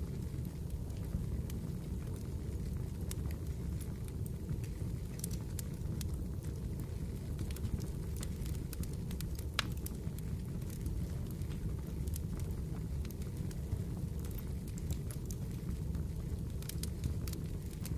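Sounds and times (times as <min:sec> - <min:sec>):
fire crackling and popping: 0:00.0 - 0:17.9
low rumble of fire: 0:00.0 - 0:17.9.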